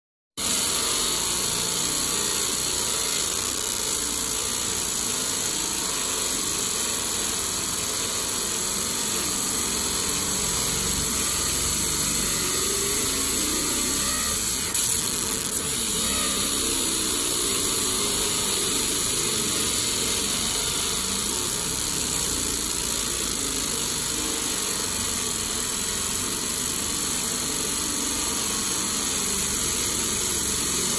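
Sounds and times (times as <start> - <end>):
laser marking machine hiss: 0.4 - 30.9.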